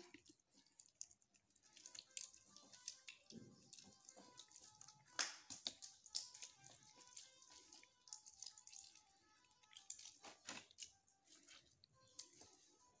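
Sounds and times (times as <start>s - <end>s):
faint background music: 0.0s - 13.0s
fingers squelching lemon pulp: 0.0s - 13.0s.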